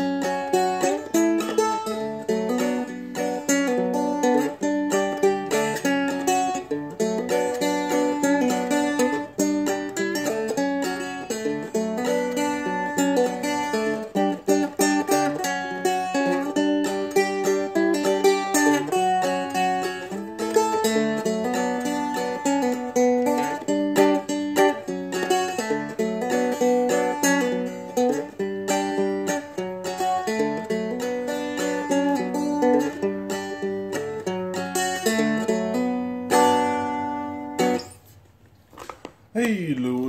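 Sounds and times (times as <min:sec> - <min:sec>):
plucked dulcimer melody: 0:00.0 - 0:37.9.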